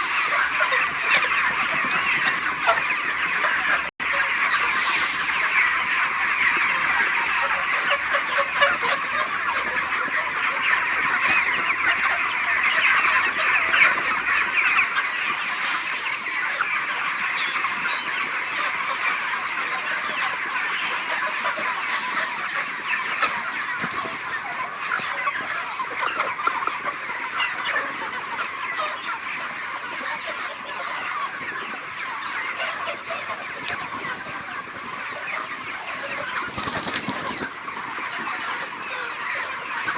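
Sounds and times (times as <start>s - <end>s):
chickens clucking and cheeping: 0.0s - 39.9s.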